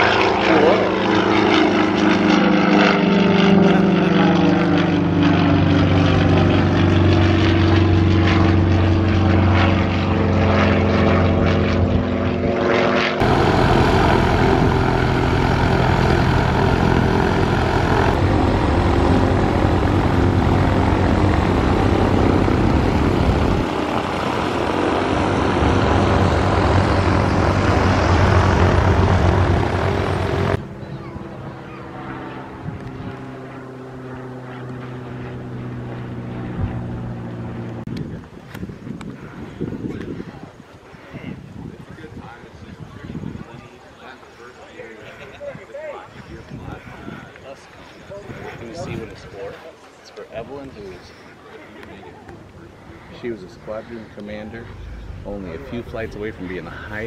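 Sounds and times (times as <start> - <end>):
light plane engines taxiing: 0.0 - 41.0, 43.6 - 57.0
propeller plane flying overhead: 0.0 - 57.0.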